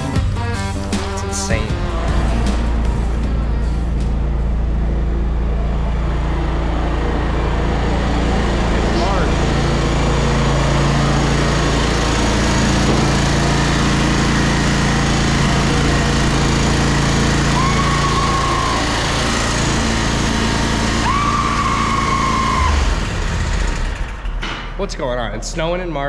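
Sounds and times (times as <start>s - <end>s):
engine running steadily: 0.0s - 24.8s.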